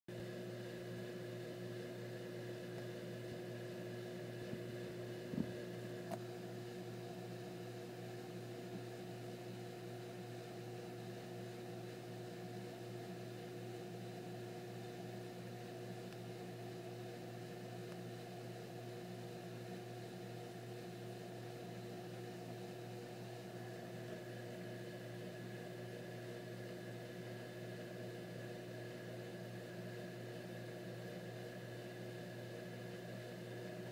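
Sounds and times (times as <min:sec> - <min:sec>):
steady mechanical hum: 0:00.1 - 0:33.9.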